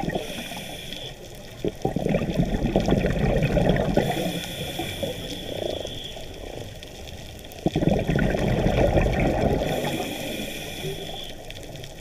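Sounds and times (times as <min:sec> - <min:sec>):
underwater bubbles gurgling: 0:00.0 - 0:12.0.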